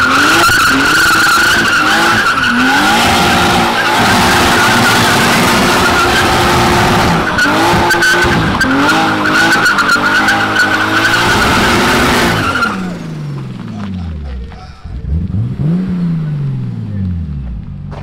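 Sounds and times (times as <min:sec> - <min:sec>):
tyres squealing: 0:00.0 - 0:15.1
car engine revving high: 0:00.0 - 0:17.7.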